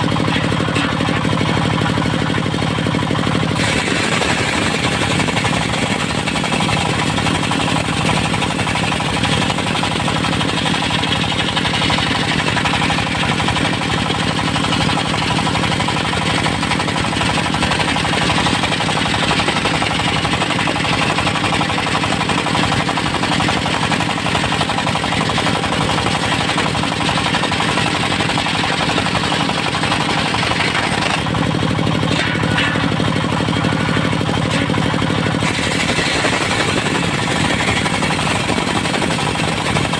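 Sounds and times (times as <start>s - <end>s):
circular saw blade cutting log: 0.0s - 39.9s
engine pulsing: 0.0s - 39.9s.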